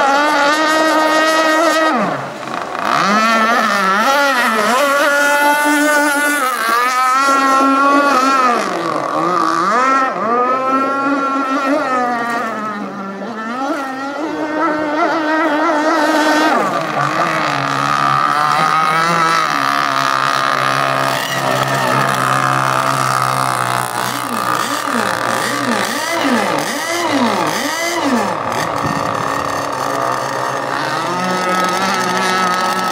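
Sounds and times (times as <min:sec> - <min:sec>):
model boat motor revving: 0:00.0 - 0:32.9.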